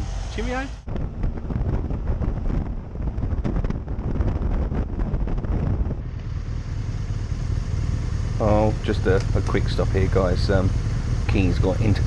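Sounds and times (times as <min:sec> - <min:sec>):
motorcycle engine and road rumble: 0:00.0 - 0:12.0
wind buffeting microphone: 0:00.0 - 0:12.0.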